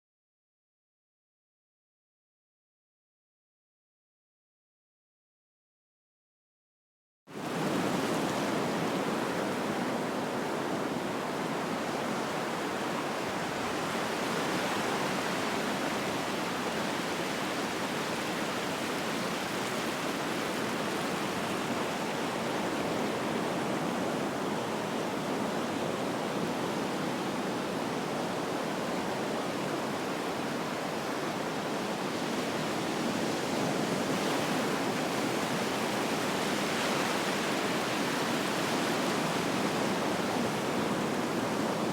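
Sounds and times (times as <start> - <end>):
ocean surf on beach: 7.3 - 41.9.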